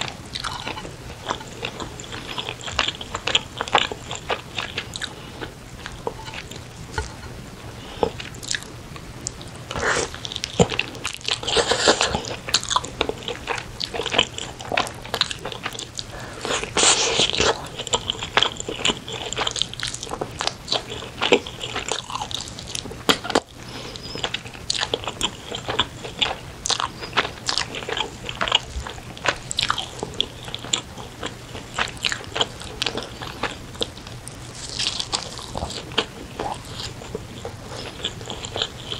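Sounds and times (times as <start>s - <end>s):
person chewing with wet smacks: 0.0s - 38.9s.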